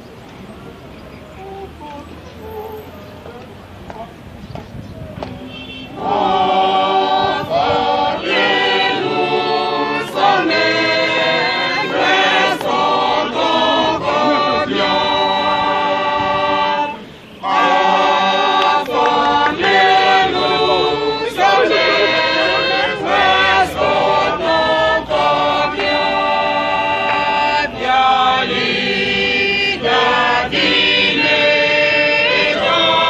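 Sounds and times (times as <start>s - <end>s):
group singing a hymn: 5.2s - 33.0s.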